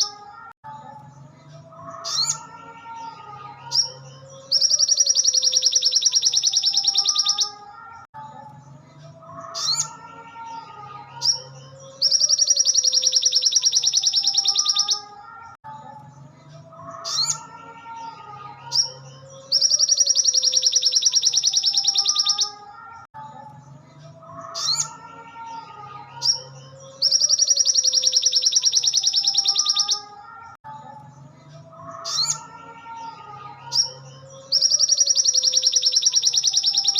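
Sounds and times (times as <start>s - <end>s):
songbird chirping and trilling: 0.0s - 36.9s.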